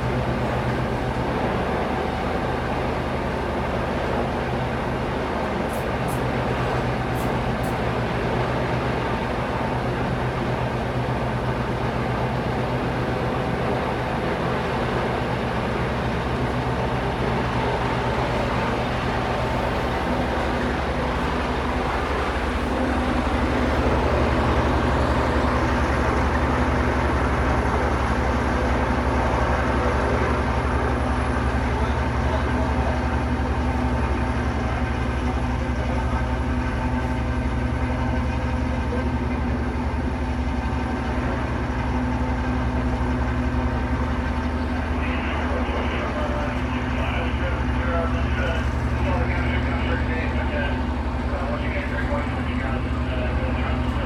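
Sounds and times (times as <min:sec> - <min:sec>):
engine drone with deep hum: 0:00.0 - 0:54.0.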